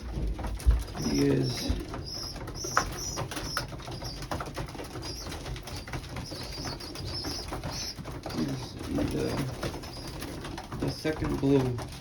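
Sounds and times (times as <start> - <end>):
light taps of birds moving: 0.0 - 12.0
pigeons cooing: 0.0 - 12.0.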